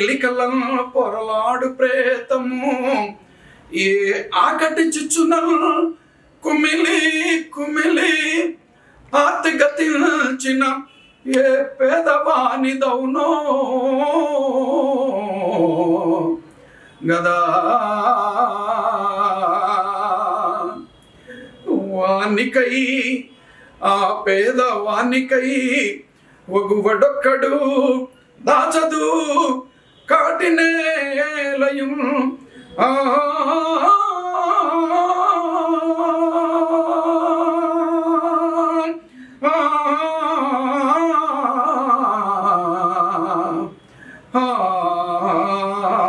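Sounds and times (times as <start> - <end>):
man singing unaccompanied: 0.0 - 46.0.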